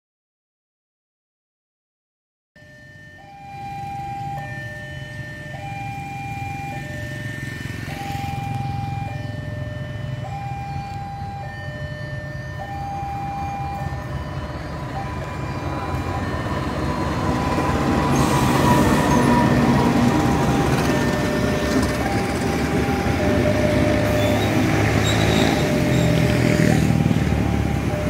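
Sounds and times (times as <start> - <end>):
two-tone warning signal: 2.6 - 28.0
diesel locomotive engine rumble: 3.2 - 28.0.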